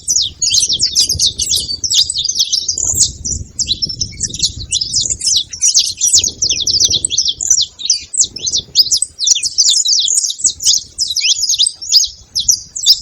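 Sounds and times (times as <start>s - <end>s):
finch chirping: 0.0s - 13.0s.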